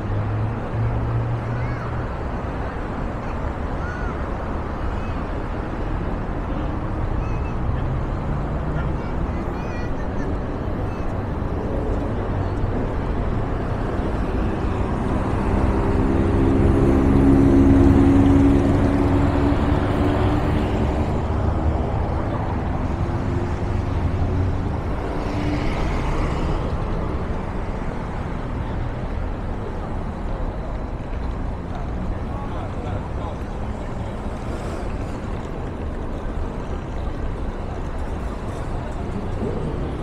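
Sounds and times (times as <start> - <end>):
low traffic rumble: 0.0 - 40.0.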